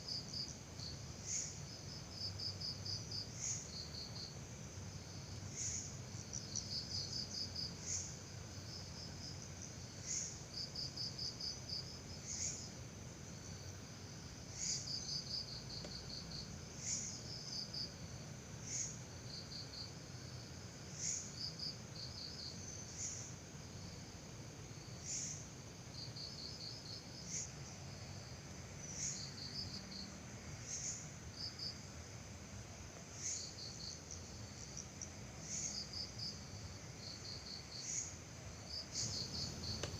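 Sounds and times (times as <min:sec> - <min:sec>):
high insect chirp: 0:00.0 - 0:39.9.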